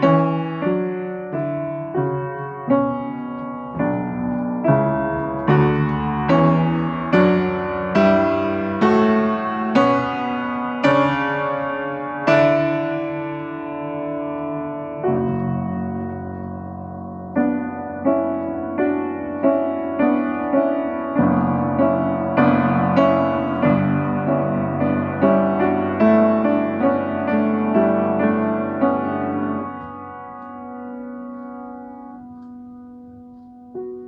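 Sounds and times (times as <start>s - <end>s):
solo piano improvisation: 0.0s - 34.0s.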